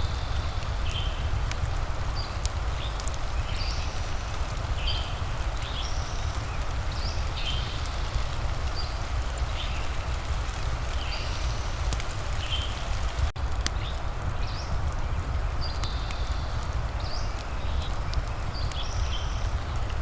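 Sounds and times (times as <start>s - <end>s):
fire crackling: 0.0s - 20.0s
rain hiss: 0.0s - 20.0s.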